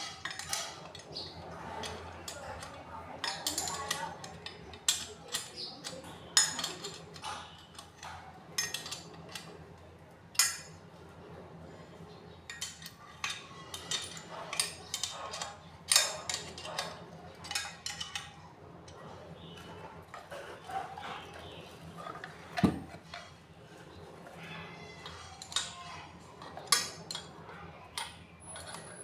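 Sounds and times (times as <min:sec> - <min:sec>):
metal tools clinking and knocking: 0:00.0 - 0:09.6, 0:10.4 - 0:10.8, 0:12.4 - 0:29.0.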